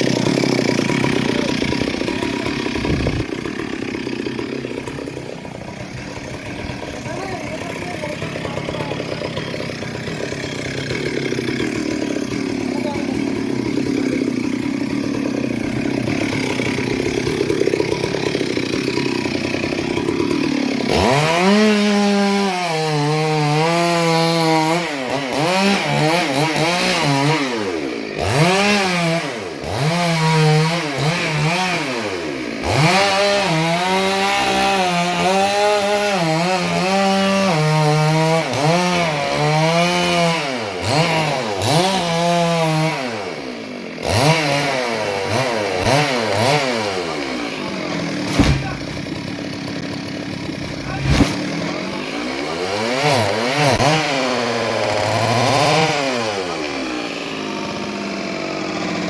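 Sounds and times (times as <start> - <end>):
chainsaw cutting into tree: 0.0 - 59.0.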